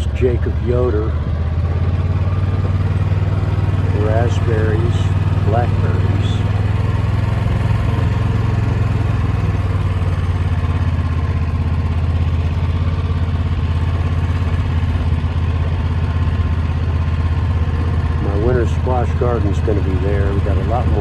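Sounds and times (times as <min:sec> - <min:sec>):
small engine running steadily: 0:00.0 - 0:21.0.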